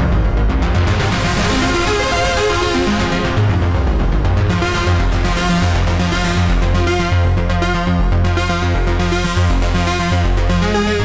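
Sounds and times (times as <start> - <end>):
arpeggiated synth notes: 0.0 - 11.0
synth bass line: 0.0 - 11.0.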